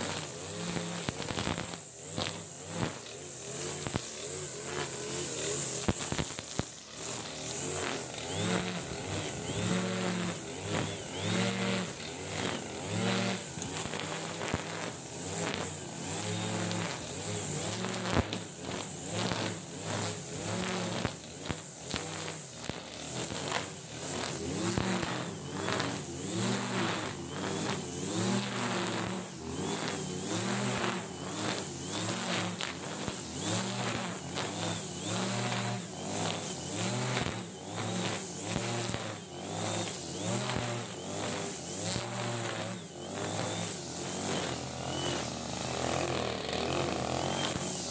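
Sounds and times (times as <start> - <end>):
brush cutter engine revving: 0.0 - 47.9
trimmer cutting grass: 0.0 - 47.9
steady high whine: 0.3 - 47.9.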